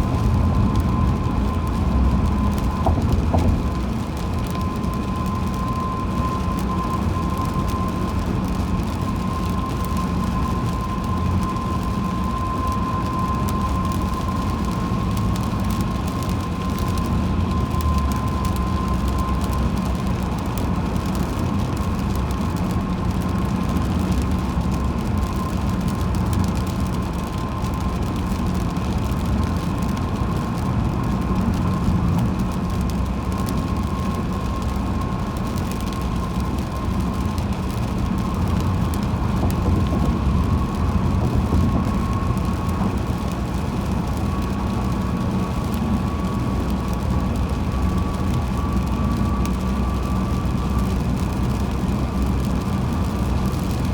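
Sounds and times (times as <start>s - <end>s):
road and tyre noise: 0.0s - 53.9s
thin steady whine: 0.0s - 53.9s.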